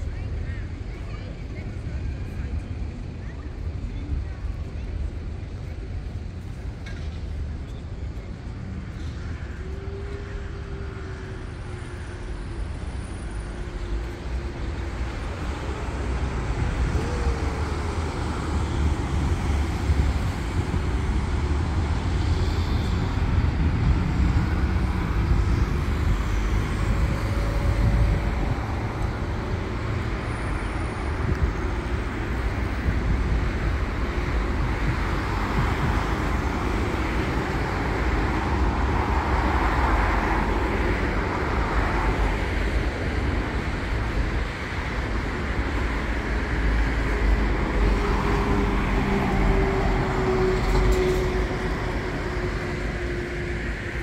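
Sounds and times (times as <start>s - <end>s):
cars passing on busy street: 0.0s - 54.0s
faint vehicle whine: 0.0s - 54.0s.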